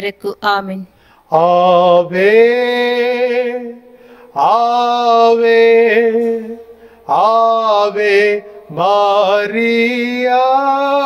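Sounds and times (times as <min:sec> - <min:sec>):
man singing a hymn: 0:01.2 - 0:11.0.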